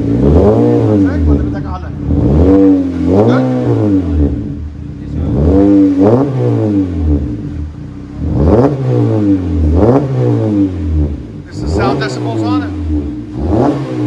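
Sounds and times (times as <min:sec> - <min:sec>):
car exhaust revving: 0:00.0 - 0:14.0.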